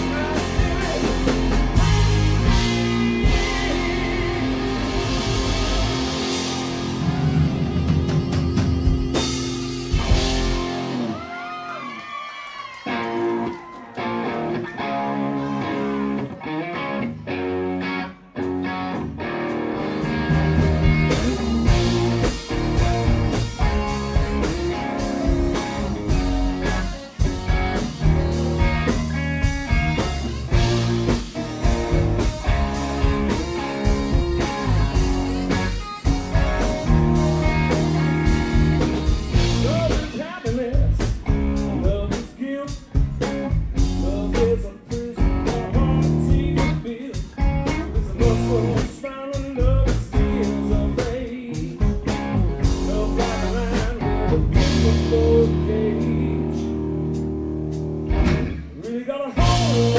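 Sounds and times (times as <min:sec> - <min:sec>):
live blues-rock band playing: 0:00.0 - 0:11.4, 0:12.9 - 0:59.9.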